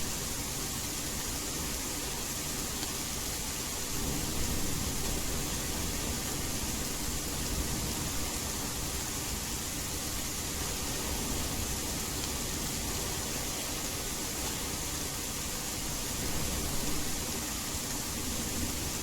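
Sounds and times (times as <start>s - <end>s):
steady rain hiss: 0.0s - 19.0s
white noise: 0.0s - 19.0s.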